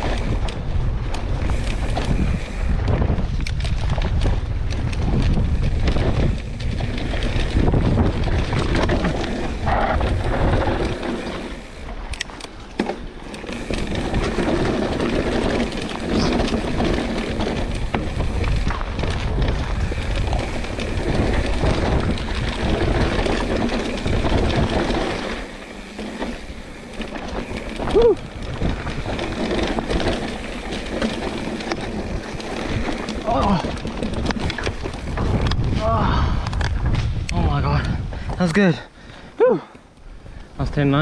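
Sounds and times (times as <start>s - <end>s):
bike rattling and knocking: 0.0s - 41.0s
bike tyres rolling and skidding on dirt: 0.0s - 41.0s
wind buffeting microphone: 0.0s - 41.0s.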